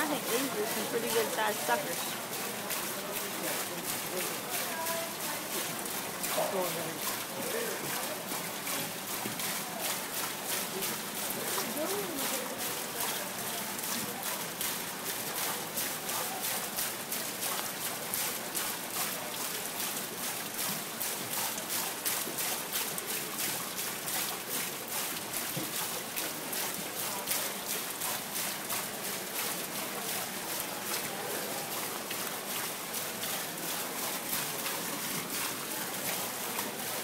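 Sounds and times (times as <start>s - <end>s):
water splashing and trickling: 0.0s - 37.0s.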